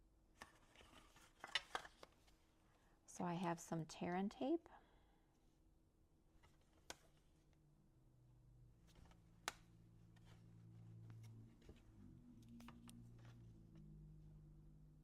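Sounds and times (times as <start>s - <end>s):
low steady hum: 0.8s - 15.0s.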